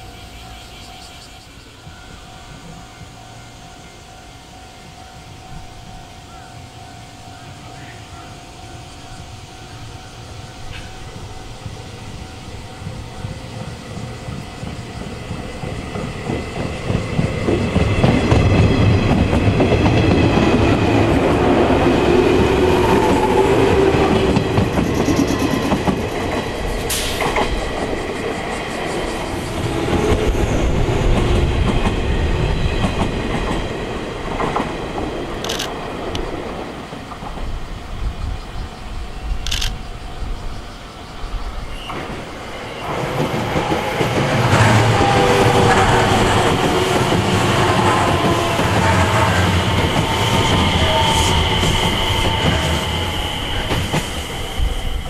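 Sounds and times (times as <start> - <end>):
electric train running past: 0.0 - 55.0.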